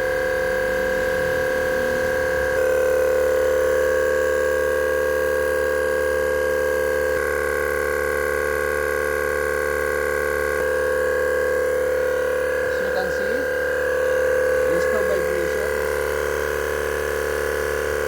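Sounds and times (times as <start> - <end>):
tyre compressor humming whine: 0.0 - 18.0.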